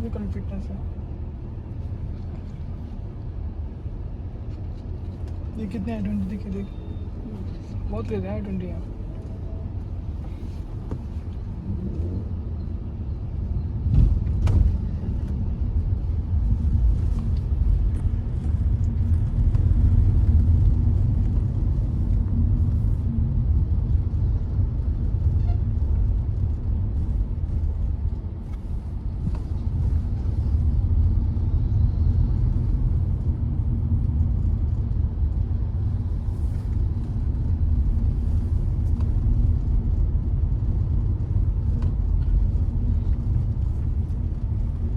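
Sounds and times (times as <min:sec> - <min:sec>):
car engine rumble: 0:00.0 - 0:44.9
road noise: 0:00.0 - 0:44.9.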